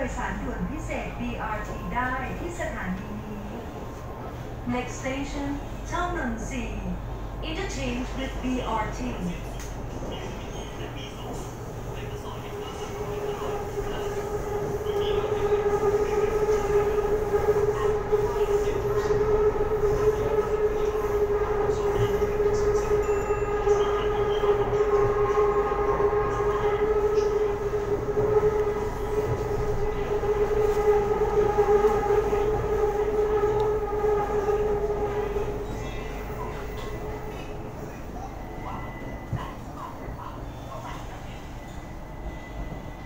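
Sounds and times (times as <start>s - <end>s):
train running rumble: 0.0s - 43.0s
train whine: 0.0s - 43.0s.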